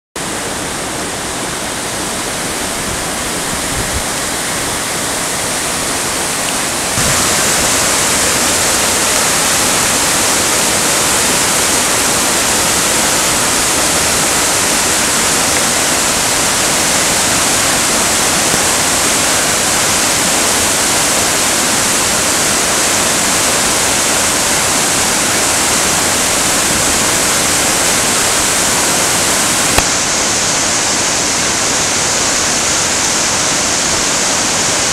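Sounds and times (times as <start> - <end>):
river rapids rushing: 0.2 - 34.9.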